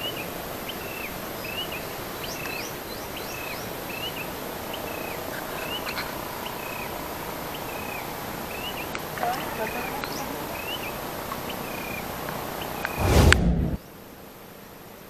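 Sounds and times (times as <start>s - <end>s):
outdoor ambience hiss: 0.0s - 15.0s
bird chirping: 0.9s - 13.0s.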